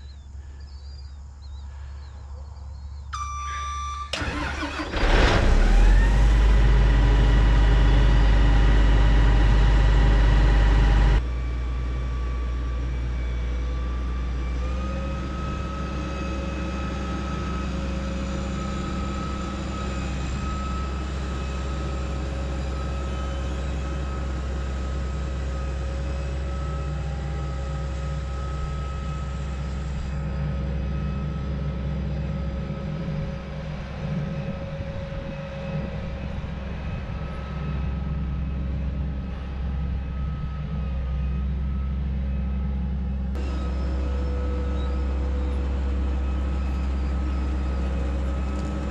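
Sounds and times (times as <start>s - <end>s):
combine diesel engine running: 4.0s - 48.9s
machine whine: 4.1s - 48.9s.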